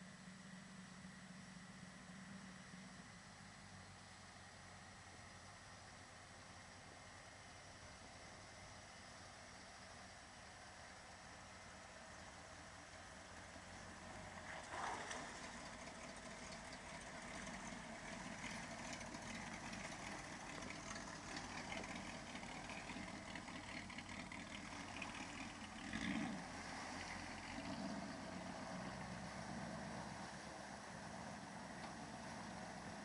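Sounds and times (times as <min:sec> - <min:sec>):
pickup truck engine running: 0:00.0 - 0:33.0.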